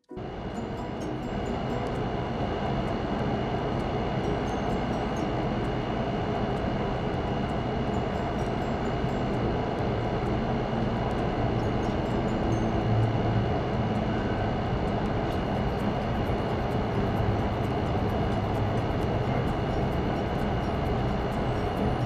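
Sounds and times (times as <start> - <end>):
mechanical drone with whine: 0.0 - 22.0.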